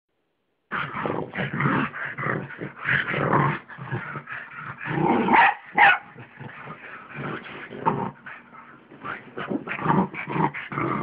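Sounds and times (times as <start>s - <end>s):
dogs play-growling and snarling: 0.7s - 11.0s.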